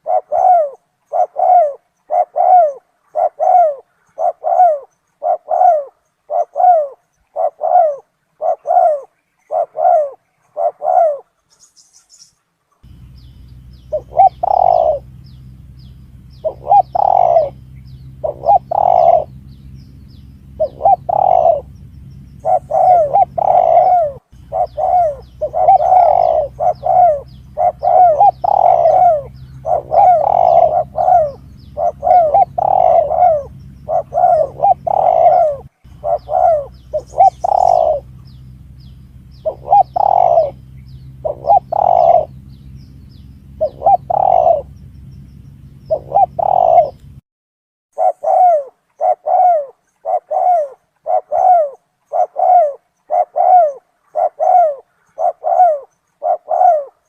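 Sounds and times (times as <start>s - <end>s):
dove cooing: 0.0s - 11.7s, 12.8s - 47.2s, 48.0s - 57.0s
low steady hum: 0.0s - 47.2s.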